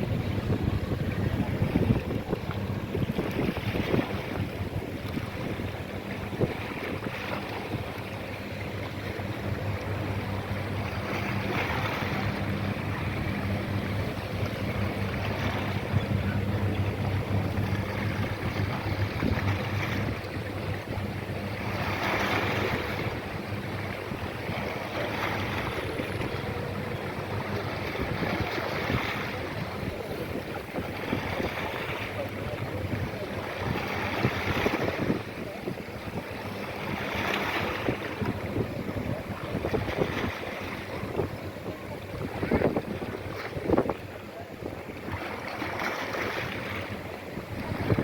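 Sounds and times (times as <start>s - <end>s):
low hum from vessel: 0.0s - 48.0s
waves: 0.0s - 48.0s
wind buffeting microphone: 0.0s - 48.0s.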